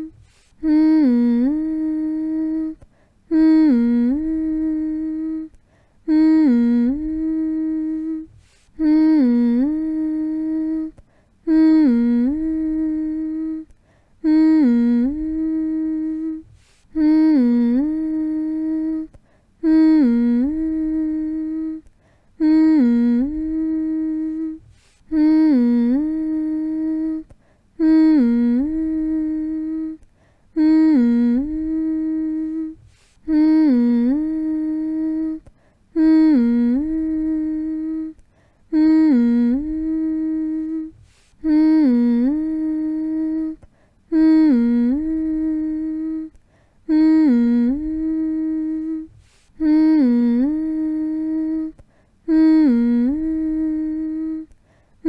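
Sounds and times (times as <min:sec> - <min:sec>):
person humming: 0:00.0 - 0:54.6.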